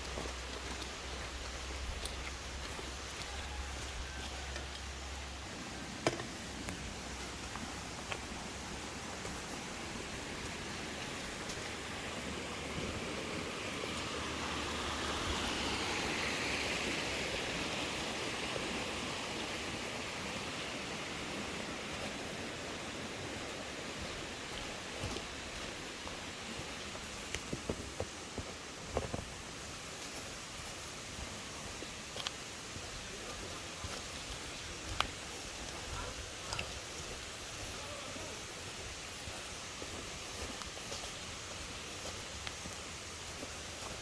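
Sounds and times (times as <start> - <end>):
river water rushing: 0.0 - 44.0.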